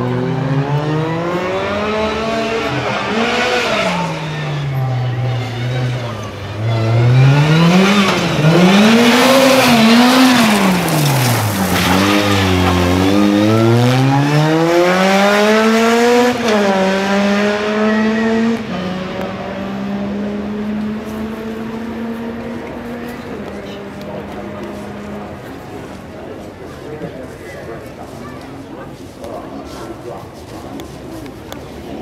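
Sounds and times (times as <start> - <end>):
rally car engine revving: 0.0 - 26.7.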